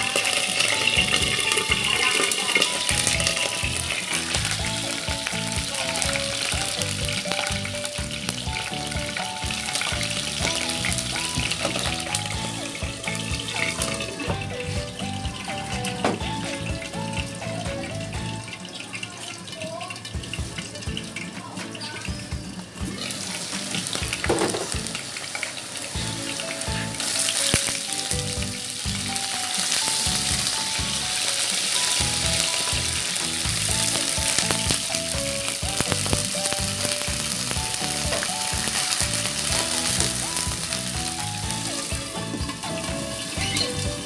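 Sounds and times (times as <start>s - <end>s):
garlic and onion sizzling in oil: 0.0s - 44.0s.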